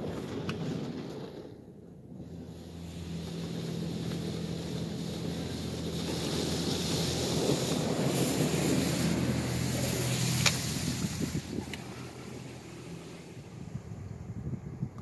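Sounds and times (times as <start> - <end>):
car wash water spray on car: 0.0 - 14.8
steady low hum: 1.9 - 15.0.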